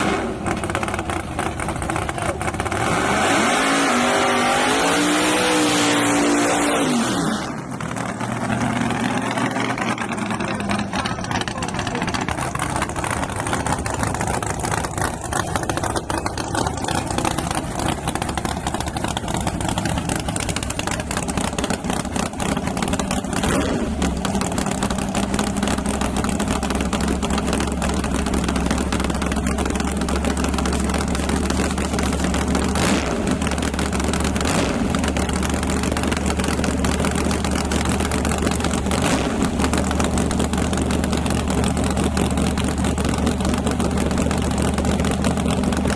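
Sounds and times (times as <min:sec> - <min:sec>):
truck engine idling: 0:00.0 - 0:03.2, 0:07.4 - 0:45.9.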